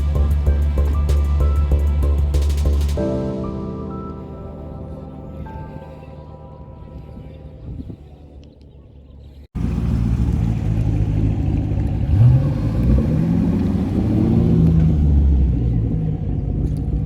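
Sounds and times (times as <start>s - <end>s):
car engine rumbling: 0.0s - 3.0s, 5.3s - 17.0s.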